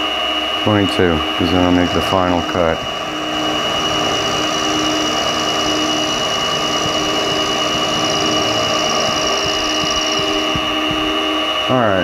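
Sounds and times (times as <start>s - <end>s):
mill spindle motor whine: 0.0s - 12.0s
end mill cutting metal: 0.8s - 11.7s.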